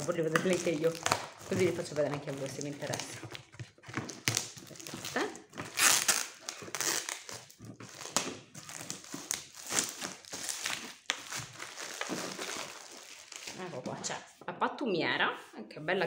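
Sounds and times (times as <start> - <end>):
packaging crinkling and rustling: 0.0 - 14.2.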